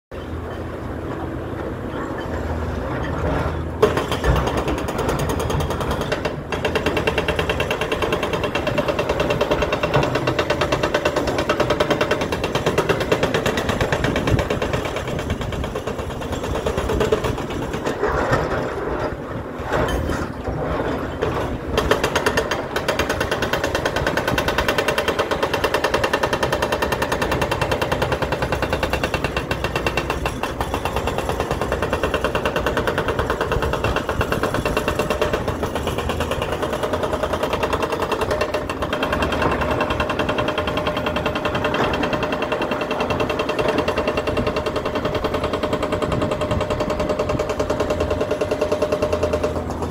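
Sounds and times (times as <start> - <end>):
excavator engine running: 0.1 - 49.9
hydraulic breaker hammering rock: 0.2 - 49.9.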